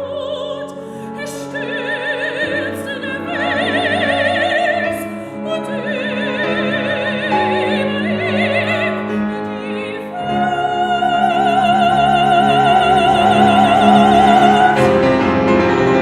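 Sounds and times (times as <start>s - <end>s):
soprano singing with vibrato: 0.0s - 15.0s
piano accompaniment: 0.0s - 16.0s.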